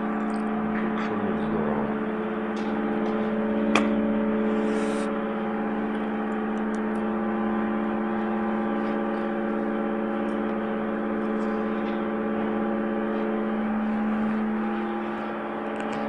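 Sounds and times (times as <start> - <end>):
machine electric hum: 0.0 - 16.0.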